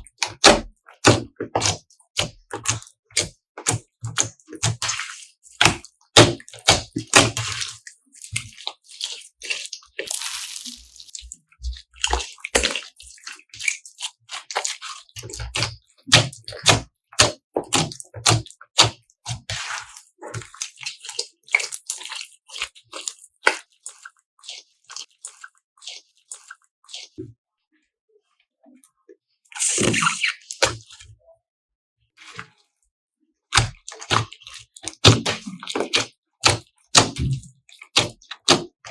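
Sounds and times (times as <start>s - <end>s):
wet slime squelching: 0.0s - 27.3s, 29.5s - 31.2s, 33.5s - 38.9s.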